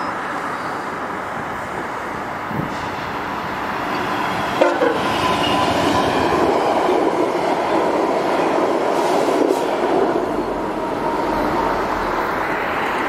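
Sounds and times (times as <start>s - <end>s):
train wheels rolling on rails: 0.0s - 13.0s.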